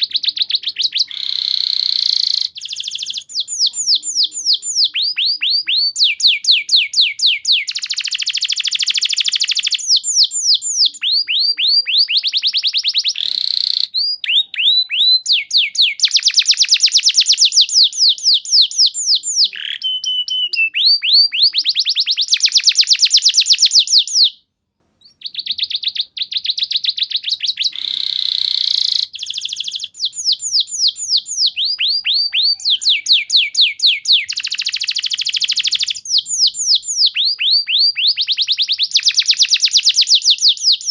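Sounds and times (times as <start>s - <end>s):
canary singing trills: 0.0s - 24.4s, 25.0s - 40.9s.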